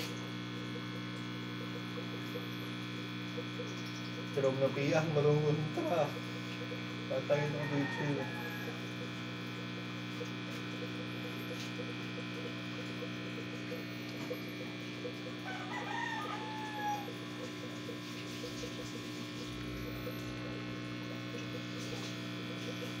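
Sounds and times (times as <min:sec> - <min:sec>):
aquarium air pump humming: 0:00.0 - 0:23.0.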